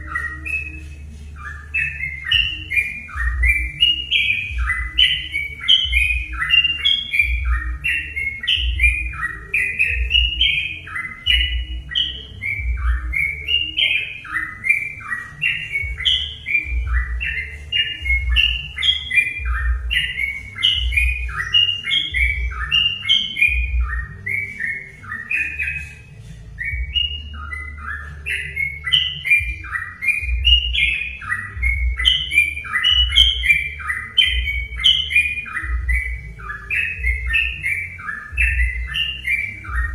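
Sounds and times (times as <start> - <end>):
bulbuls singing bubbly phrases: 0.0 - 39.9.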